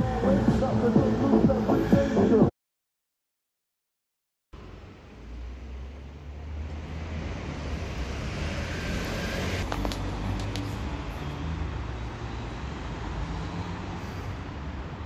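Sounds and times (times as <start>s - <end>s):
cars passing: 0.0s - 2.5s, 4.6s - 15.0s.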